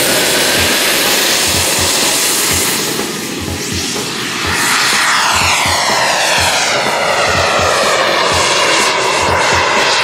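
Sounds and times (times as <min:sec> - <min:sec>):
jet engine roar with falling whine: 0:00.0 - 0:10.0.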